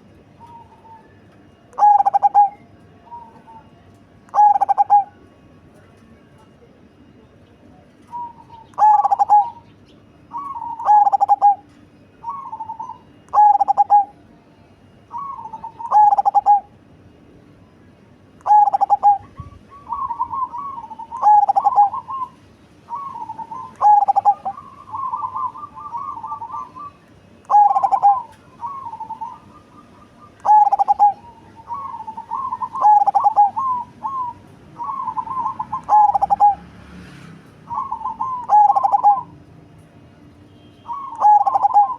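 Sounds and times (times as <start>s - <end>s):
dove cooing: 0.0s - 5.2s, 8.0s - 9.7s, 10.3s - 14.2s, 15.0s - 16.8s, 18.4s - 36.8s, 37.6s - 39.4s, 40.9s - 41.9s.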